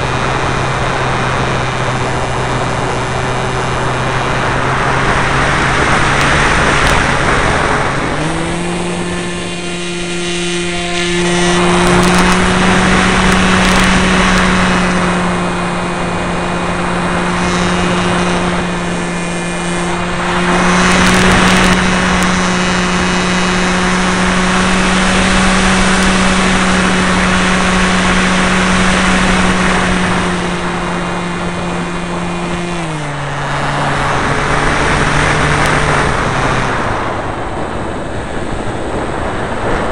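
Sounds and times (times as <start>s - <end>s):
model plane motor whine: 0.0s - 39.9s
wind rushing over microphone: 0.0s - 39.9s.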